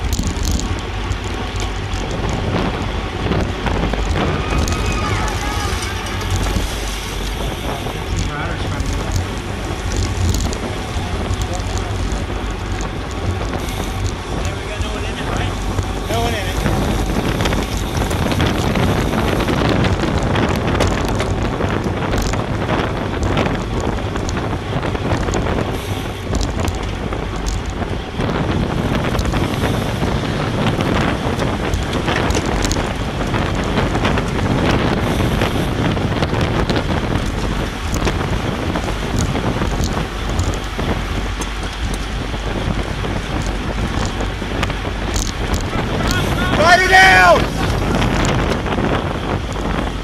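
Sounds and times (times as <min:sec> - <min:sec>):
wind rush on microphone: 0:00.0 - 0:50.0.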